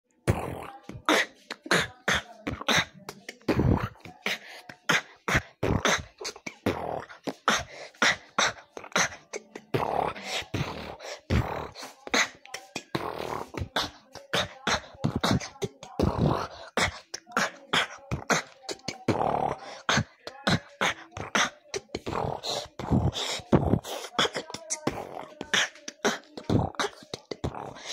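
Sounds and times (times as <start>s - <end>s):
beatboxing: 0.2s - 27.9s.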